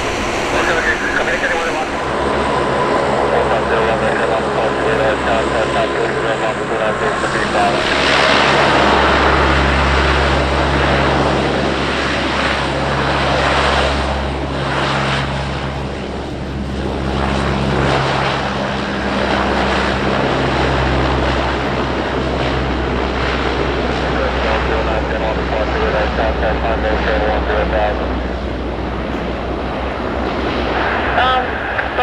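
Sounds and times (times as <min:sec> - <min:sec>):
airplane engines roaring: 0:00.0 - 0:32.0.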